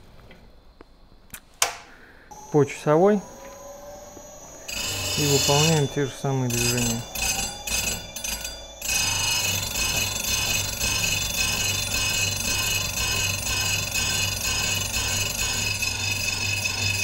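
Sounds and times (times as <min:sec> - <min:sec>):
grinding wheel scraping knife: 0:02.3 - 0:17.0
sharpening machine motor hum: 0:02.3 - 0:17.0.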